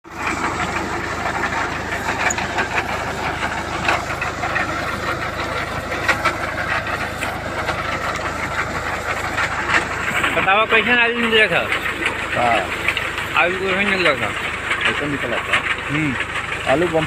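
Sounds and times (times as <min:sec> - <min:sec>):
tractor engine running: 0:00.0 - 0:17.0
rattling clatter: 0:00.1 - 0:17.0.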